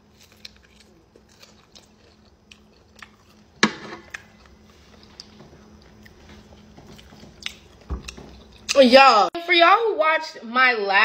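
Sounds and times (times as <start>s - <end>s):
person chewing food: 0.0s - 8.8s.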